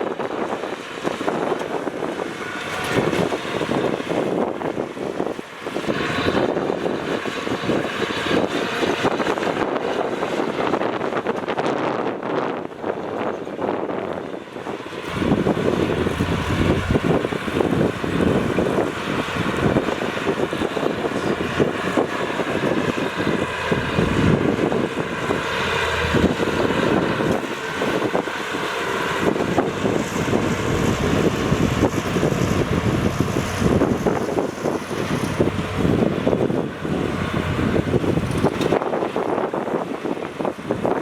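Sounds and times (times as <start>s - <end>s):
heavy diesel machinery engine: 0.0s - 41.0s.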